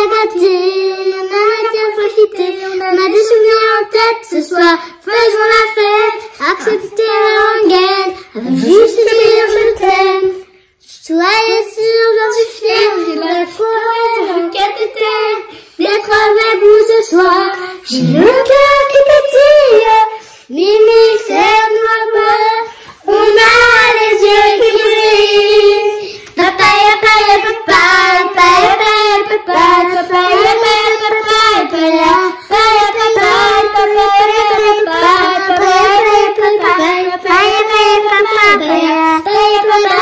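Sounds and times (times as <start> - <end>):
child singing: 0.0 - 40.0.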